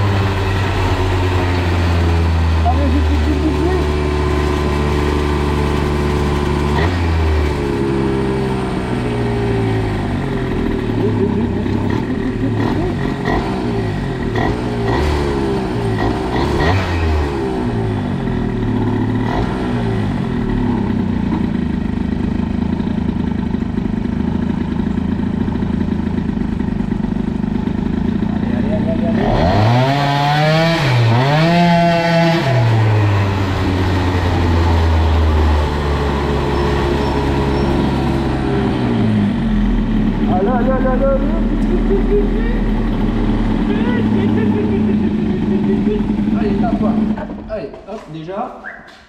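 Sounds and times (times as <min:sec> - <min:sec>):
moped engine running hard: 0:00.0 - 0:47.8.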